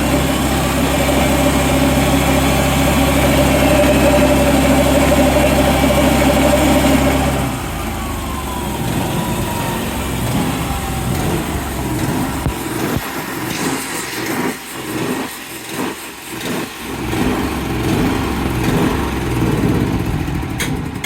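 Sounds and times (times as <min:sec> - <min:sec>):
engine running with strong hum: 0:00.0 - 0:21.0.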